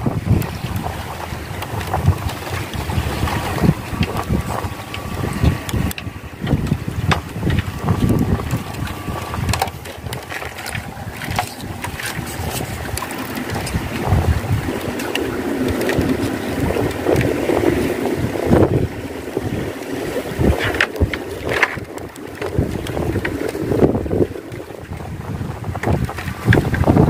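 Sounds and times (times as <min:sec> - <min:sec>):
sea washing: 0:00.0 - 0:27.0
wind buffeting microphone: 0:00.0 - 0:27.0.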